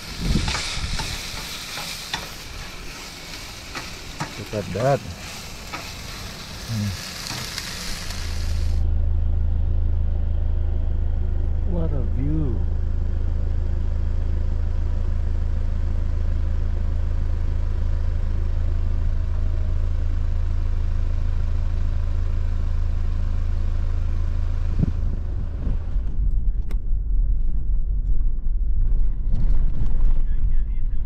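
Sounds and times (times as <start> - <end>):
vehicle engine idling: 0.0 - 29.3.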